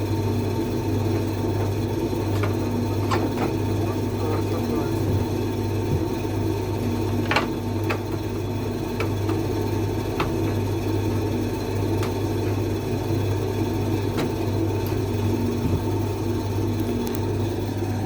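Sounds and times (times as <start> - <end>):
machine humming with faint whine: 0.0 - 18.0.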